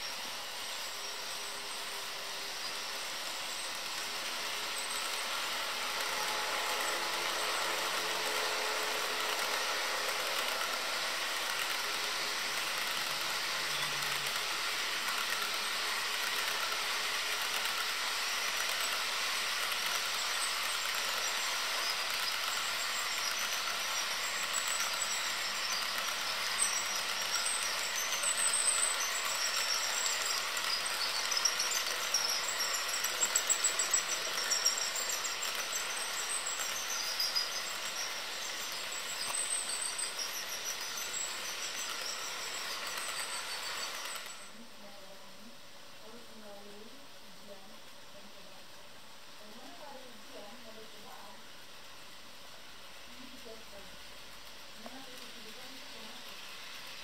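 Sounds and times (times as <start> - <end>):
model train motor whirring: 0.0 - 57.0.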